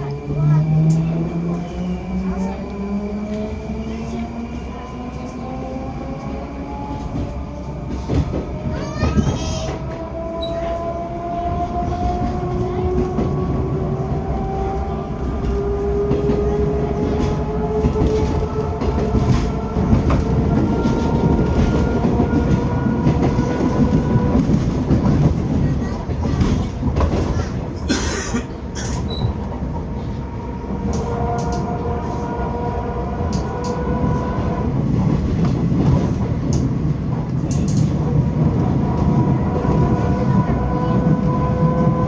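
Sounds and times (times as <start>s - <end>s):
wheels rumbling on rail: 0.0s - 42.0s.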